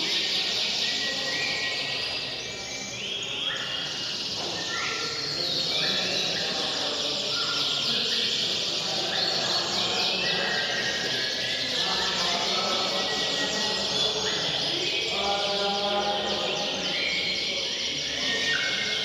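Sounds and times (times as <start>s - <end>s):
canaries singing: 0.0s - 19.0s.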